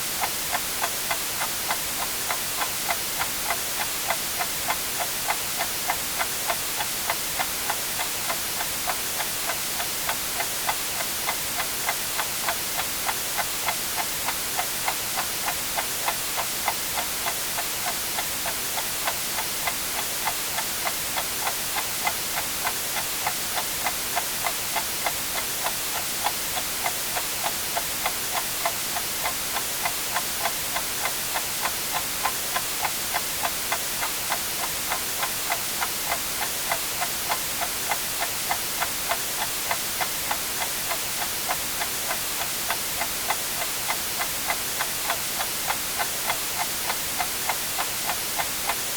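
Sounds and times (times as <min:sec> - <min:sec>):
white noise hiss: 0:00.0 - 0:48.9
clock ticking: 0:00.2 - 0:48.9.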